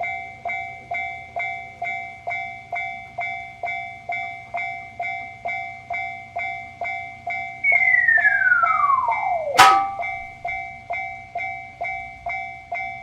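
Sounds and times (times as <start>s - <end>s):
railroad crossing signal ringing: 0.0s - 13.0s.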